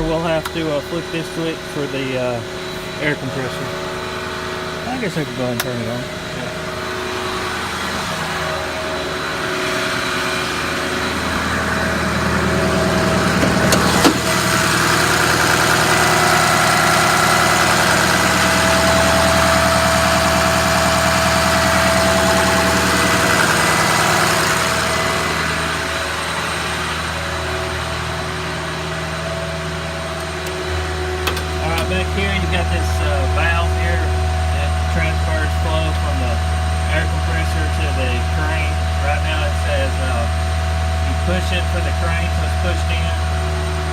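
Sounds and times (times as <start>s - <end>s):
air compressor running: 0.0s - 43.9s
diesel engine idling: 0.0s - 43.9s
whine: 0.0s - 43.9s.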